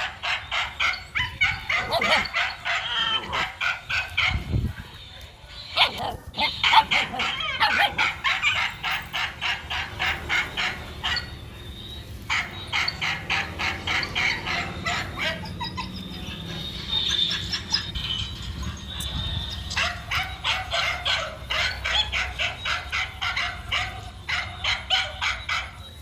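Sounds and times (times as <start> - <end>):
animal sharp calls: 0.0 - 4.6, 5.5 - 25.8.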